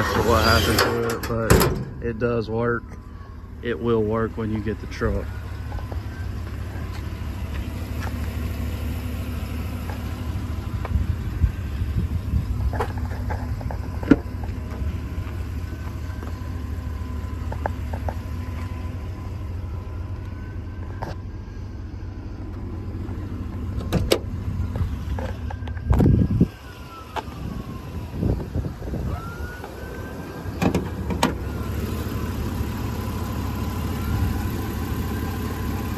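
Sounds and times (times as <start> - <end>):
vehicle engine rumbling: 0.0 - 35.9.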